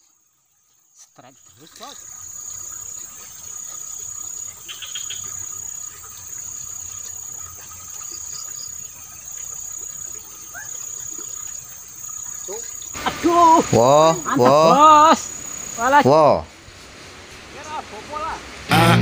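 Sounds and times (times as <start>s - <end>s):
insect trilling: 0.1s - 16.3s.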